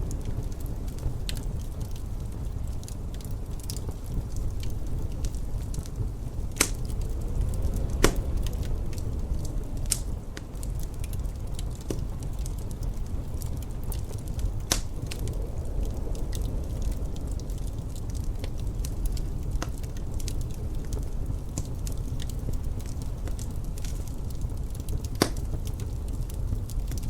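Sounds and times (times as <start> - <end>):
low wind rumble: 0.0 - 27.0
wood fire crackling and popping: 0.0 - 27.0.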